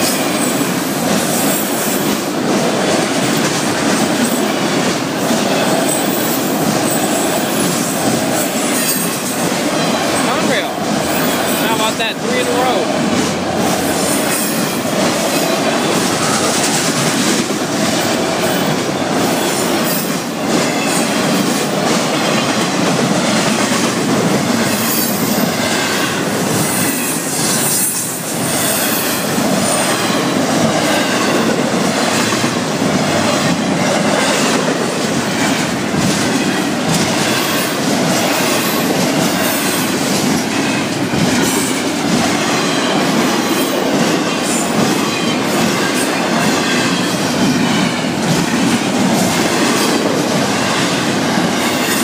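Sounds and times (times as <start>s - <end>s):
freight train wheels rumbling: 0.0s - 52.0s
wheels clacking over rail joints: 0.0s - 52.0s.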